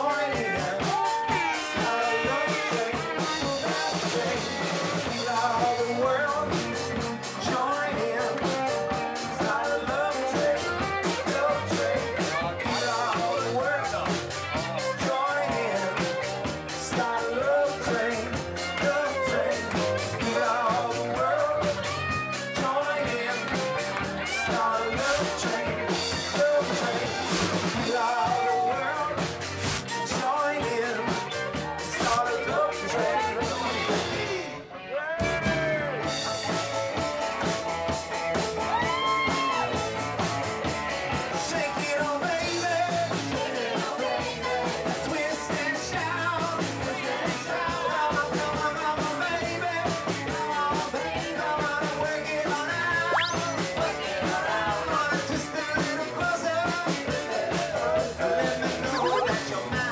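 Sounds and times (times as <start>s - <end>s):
steady drum beat: 0.0s - 34.4s, 35.2s - 59.9s
person singing: 0.0s - 37.3s, 41.1s - 59.9s
upbeat rock and roll music: 0.0s - 59.9s.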